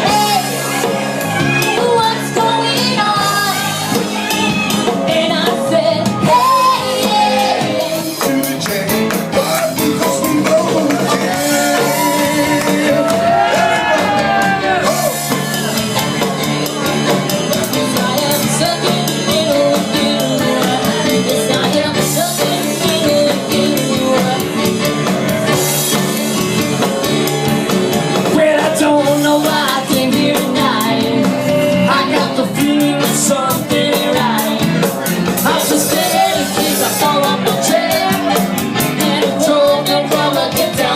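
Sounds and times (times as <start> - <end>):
drum and cymbal beat: 0.0 - 40.9
rock band playing live: 0.0 - 40.9.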